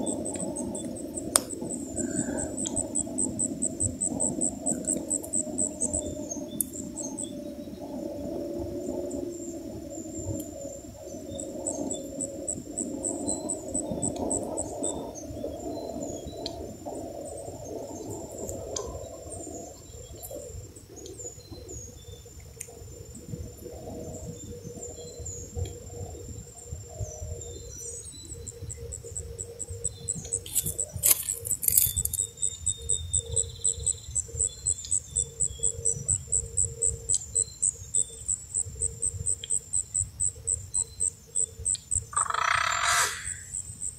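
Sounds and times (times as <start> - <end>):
insect chirping: 0.0 - 43.9.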